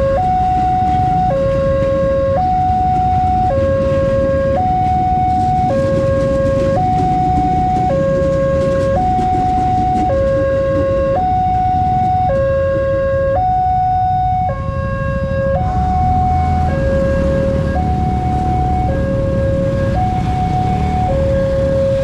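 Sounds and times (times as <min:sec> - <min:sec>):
level crossing two-tone alarm: 0:00.0 - 0:22.0.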